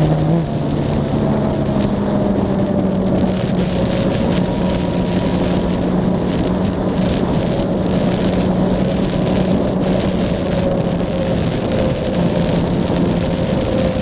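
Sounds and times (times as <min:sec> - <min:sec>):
motorcycle engine cruising: 0:00.0 - 0:14.0
wind and road noise: 0:00.0 - 0:14.0.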